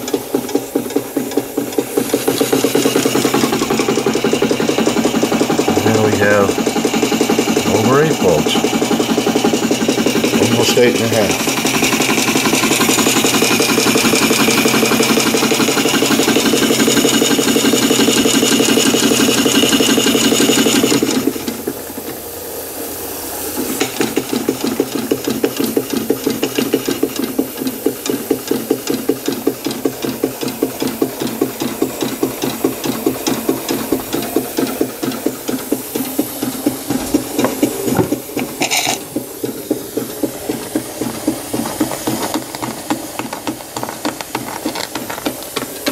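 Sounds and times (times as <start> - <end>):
model steam engine beating: 0.0 - 45.9
steam hiss: 0.0 - 45.9.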